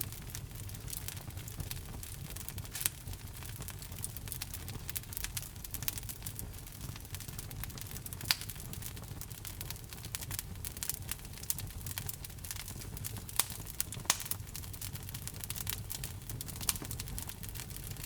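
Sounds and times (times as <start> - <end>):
fire crackling: 0.0 - 18.0
loud fire pops: 0.0 - 18.0.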